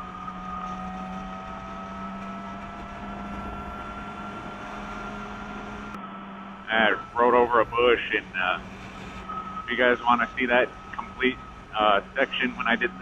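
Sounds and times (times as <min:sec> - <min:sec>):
motorcycle engine drone: 0:00.0 - 0:13.0
thin high whine: 0:00.0 - 0:13.0.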